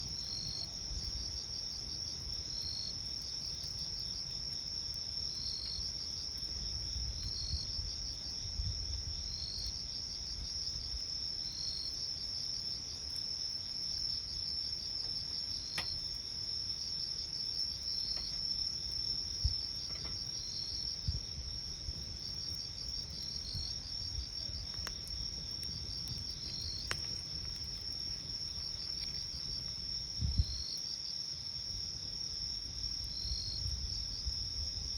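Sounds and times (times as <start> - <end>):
campfire crackling: 0.0 - 34.9
crickets trilling: 0.0 - 34.9
insect chirping: 0.0 - 34.9.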